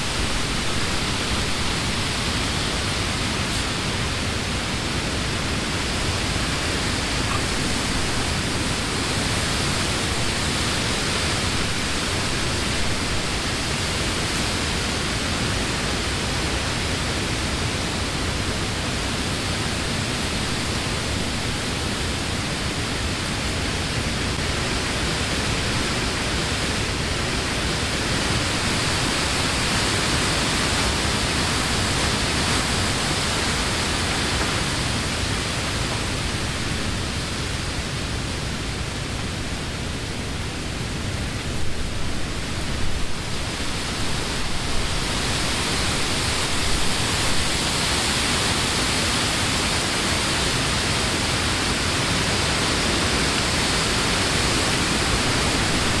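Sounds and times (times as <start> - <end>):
wind rustling leaves in trees: 0.0 - 56.0.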